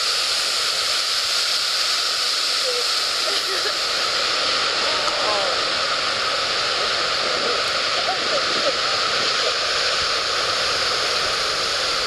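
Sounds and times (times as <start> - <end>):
churning sea water roar: 0.0 - 12.0.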